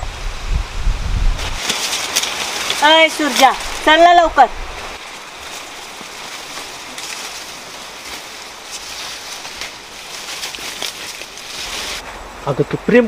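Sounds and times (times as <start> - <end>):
sugarcane leaves rustling: 0.0 - 12.6
sharp crackles: 1.4 - 12.0.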